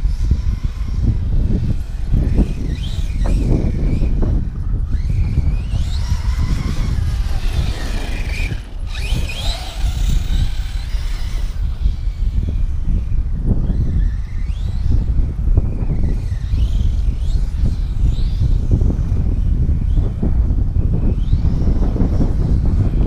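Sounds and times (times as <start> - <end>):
electric motor whining: 0.0 - 23.0
wind rumble on microphone: 0.0 - 23.0.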